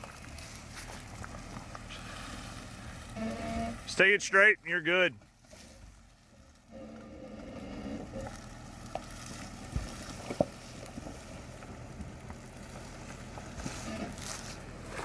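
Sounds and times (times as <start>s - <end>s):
suv engine running low: 0.0s - 15.0s.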